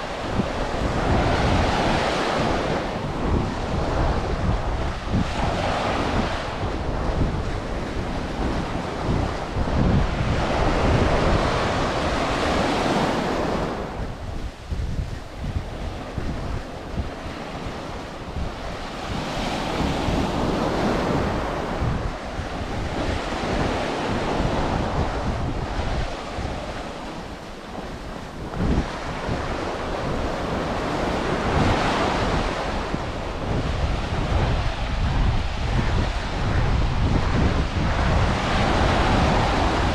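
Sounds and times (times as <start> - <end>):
ocean waves breaking on sand: 0.0 - 39.9
wind buffeting microphone: 0.0 - 39.9.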